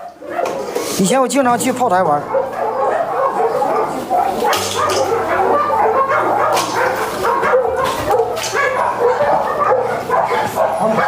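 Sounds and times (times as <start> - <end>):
many dogs barking and yelping: 0.0 - 11.0.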